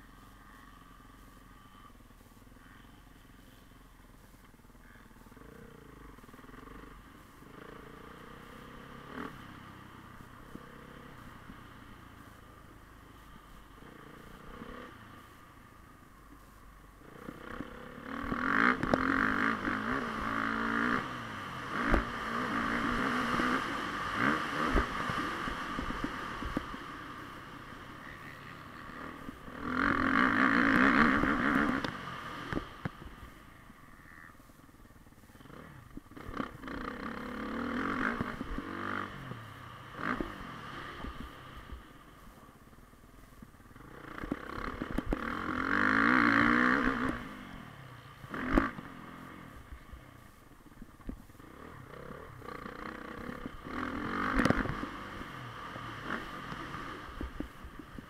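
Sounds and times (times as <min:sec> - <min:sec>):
motocross bike engine revving: 0:00.0 - 0:15.4, 0:17.0 - 0:42.4, 0:43.6 - 0:58.0.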